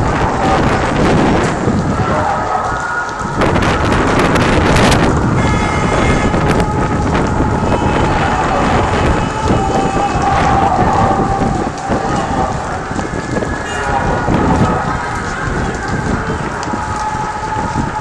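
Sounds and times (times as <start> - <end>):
fire crackling and popping: 0.0 - 18.0
fire roaring: 0.0 - 18.0.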